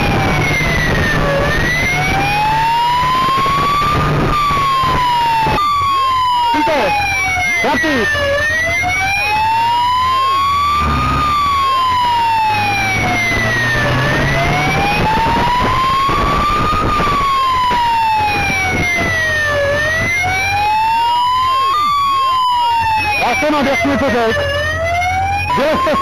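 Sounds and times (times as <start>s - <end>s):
siren wailing: 0.0s - 26.0s.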